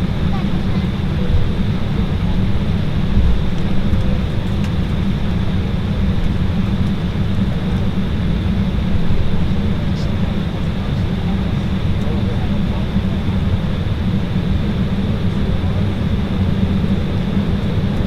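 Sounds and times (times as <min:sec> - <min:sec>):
aircraft cabin engine noise: 0:00.0 - 0:18.0
faint high engine whine: 0:00.0 - 0:18.0.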